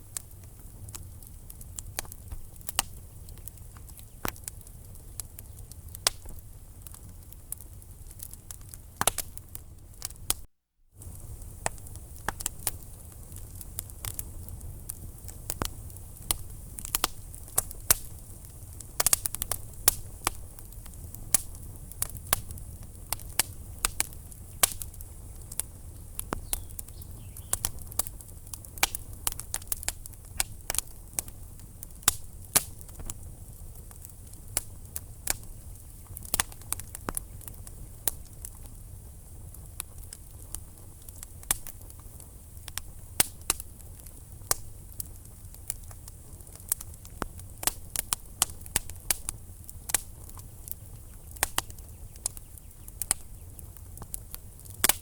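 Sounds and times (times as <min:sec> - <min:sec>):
burning logs crackling and popping: 0:00.0 - 0:55.0
low rumble of flames: 0:00.0 - 0:55.0.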